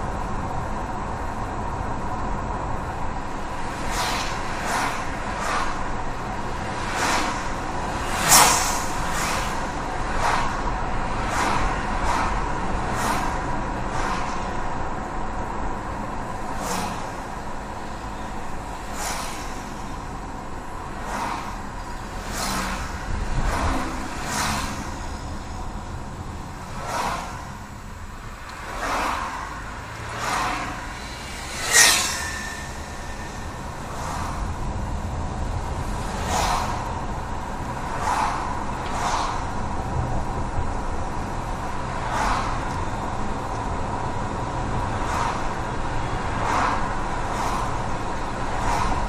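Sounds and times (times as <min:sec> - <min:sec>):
car engine and tyre noise: 0:00.0 - 0:49.0
vehicles swishing past: 0:00.0 - 0:49.0.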